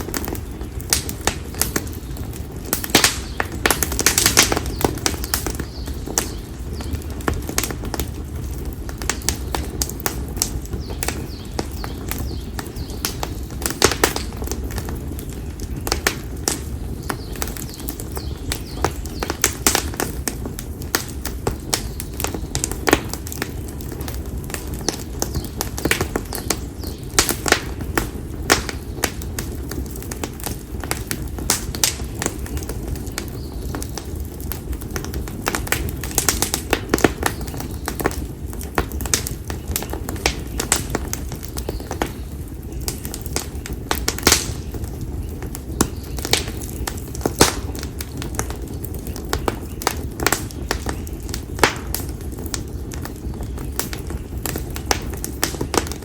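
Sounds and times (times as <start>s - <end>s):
firewood crackling and popping: 0.0s - 56.0s
rush of flames: 0.0s - 56.0s.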